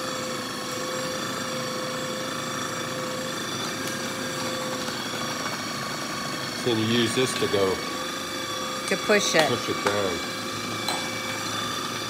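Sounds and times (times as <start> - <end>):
food processor motor whirring: 0.0 - 12.0.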